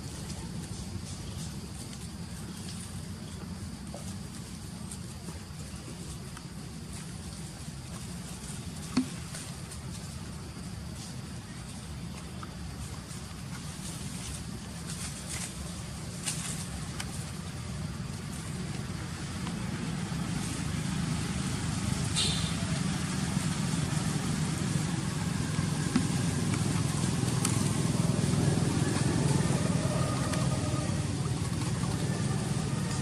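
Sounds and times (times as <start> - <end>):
low engine rumble: 0.0 - 33.0.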